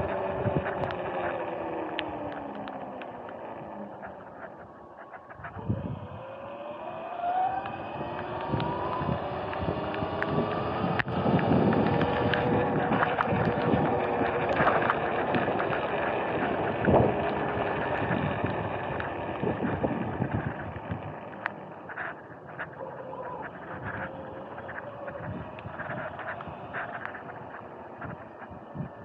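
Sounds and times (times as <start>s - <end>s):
electric motor whine: 0.0s - 29.0s
tyre and wind noise: 0.0s - 29.0s.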